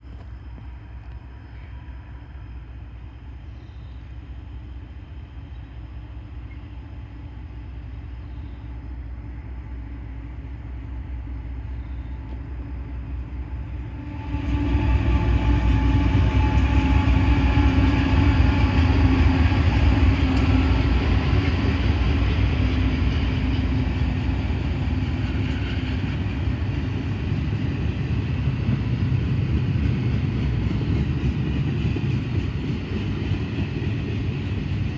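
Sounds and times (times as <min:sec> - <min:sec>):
diesel engine drone: 0:00.0 - 0:30.7
freight train rumble: 0:00.0 - 0:34.9
rail noise: 0:00.0 - 0:34.9.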